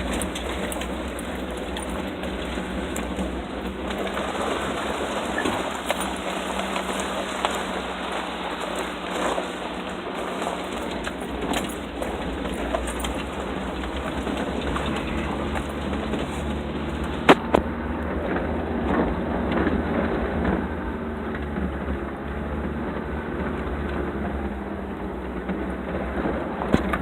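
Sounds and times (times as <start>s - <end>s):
stones knocking under wheels: 0.0s - 22.3s, 25.0s - 27.0s
tyre noise on dirt road: 0.0s - 27.0s
vehicle engine hum: 0.0s - 27.0s.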